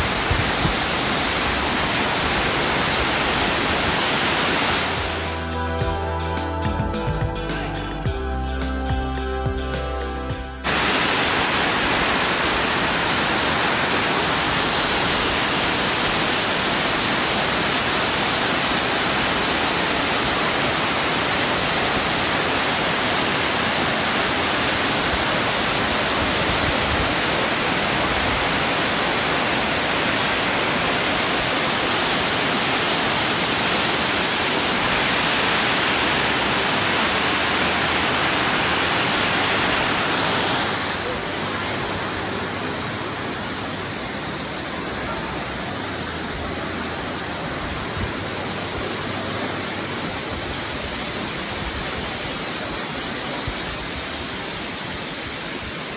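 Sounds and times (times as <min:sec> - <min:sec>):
waterfall rushing: 0:00.0 - 0:06.6, 0:10.6 - 0:55.9.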